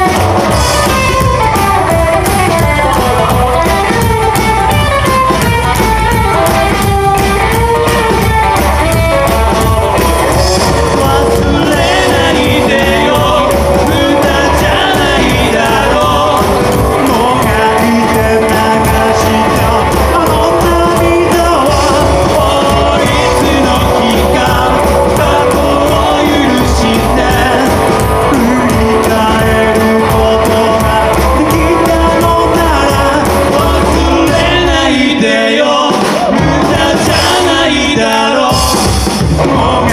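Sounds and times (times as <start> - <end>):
rockabilly band playing live: 0.0 - 39.9.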